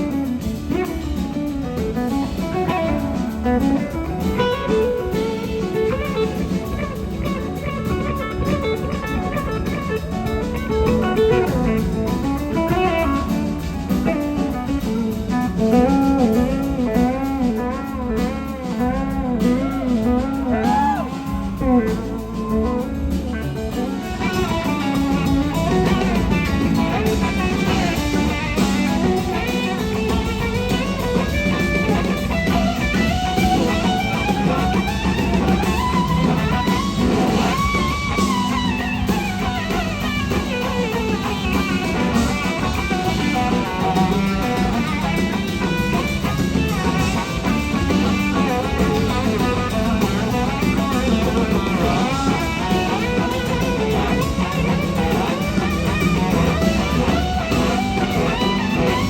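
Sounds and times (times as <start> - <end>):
bass guitar: 0.0 - 59.0
drums: 0.0 - 59.0
electric slide guitar solo: 0.0 - 59.0.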